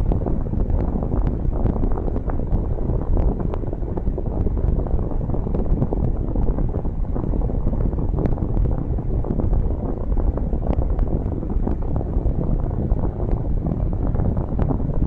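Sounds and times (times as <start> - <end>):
low rumbling noise: 0.0 - 15.0
wind buffeting microphone: 0.0 - 15.0.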